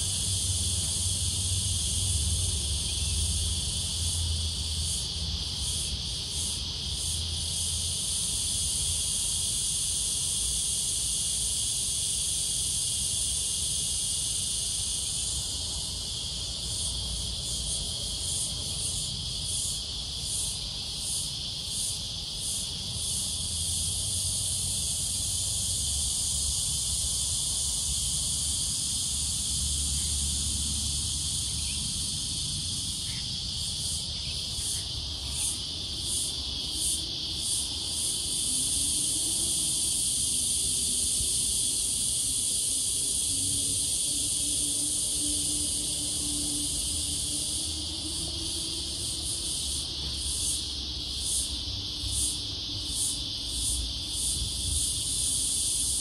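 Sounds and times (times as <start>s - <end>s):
cicada chorus drone: 0.0s - 56.0s.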